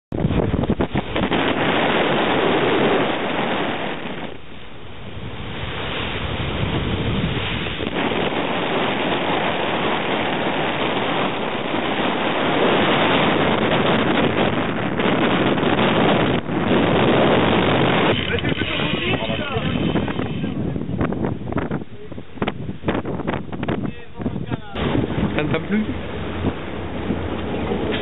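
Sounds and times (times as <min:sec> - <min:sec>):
wind rumbling on microphone: 0:00.0 - 0:28.0
open sea rushing: 0:00.1 - 0:28.0.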